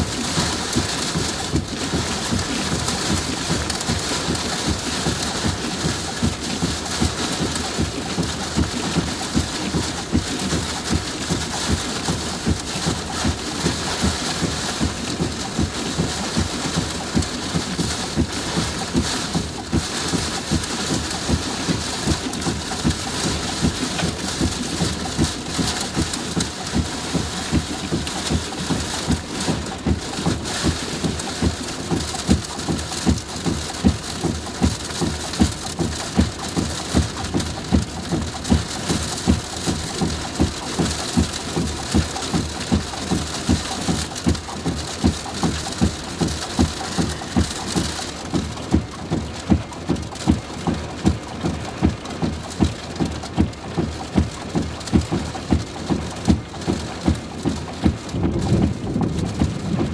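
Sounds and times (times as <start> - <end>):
low rhythmic thumps: 0.0 - 59.9
rain lashing a vehicle: 0.0 - 59.9.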